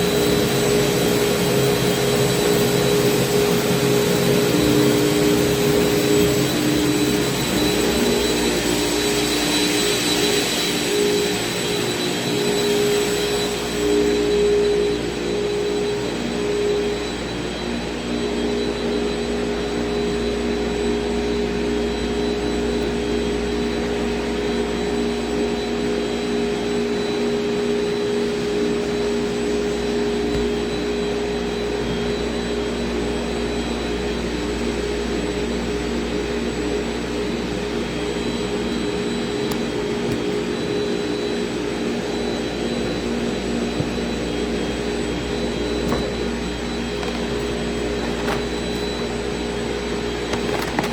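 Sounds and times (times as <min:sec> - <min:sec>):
cnc router whining: 0:00.0 - 0:33.0, 0:36.8 - 0:50.9.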